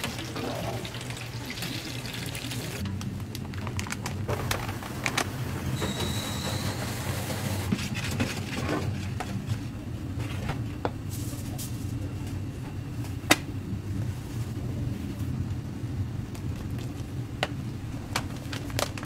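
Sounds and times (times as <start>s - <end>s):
steady low hum: 2.2s - 19.0s.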